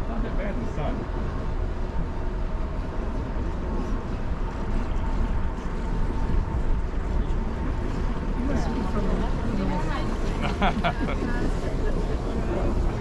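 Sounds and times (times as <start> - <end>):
ship under way: 0.0 - 13.0
wind rumble: 0.0 - 13.0.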